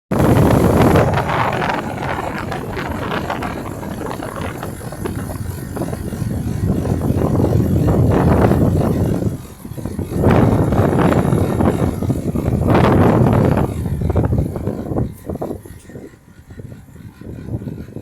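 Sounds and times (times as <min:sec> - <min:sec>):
air conditioner rumbling: 0:00.2 - 0:18.0
rattling and clattering: 0:00.2 - 0:18.0.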